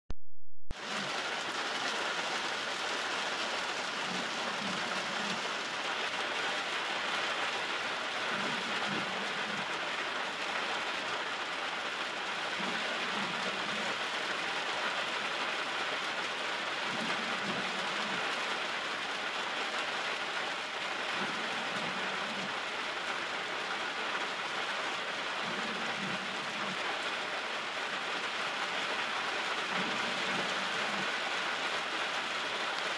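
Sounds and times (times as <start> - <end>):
steady rain falling: 0.7 - 32.9.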